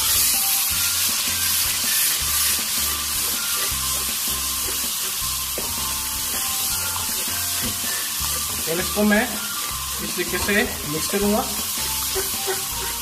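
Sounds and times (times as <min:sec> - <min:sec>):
sauce sizzling in hot oil: 0:00.0 - 0:13.0.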